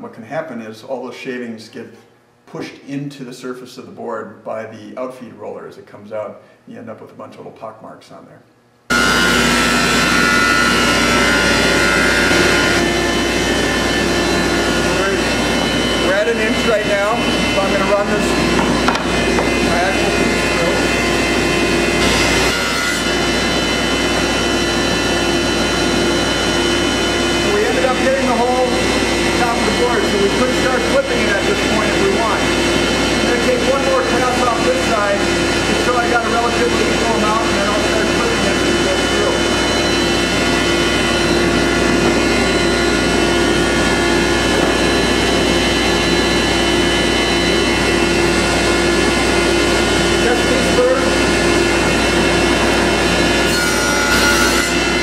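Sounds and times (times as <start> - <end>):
thickness planer running: 8.9 - 55.0.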